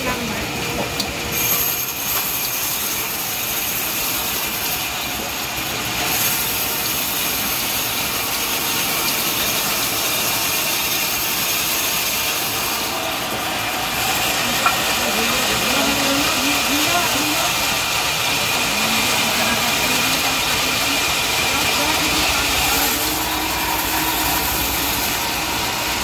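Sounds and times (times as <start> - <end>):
saw cutting wood: 1.3 - 26.0.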